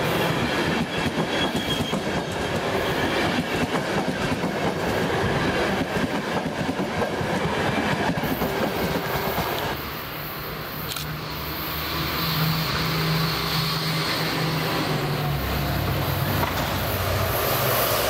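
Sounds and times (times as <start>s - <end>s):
train rolling rumble: 0.0s - 18.0s.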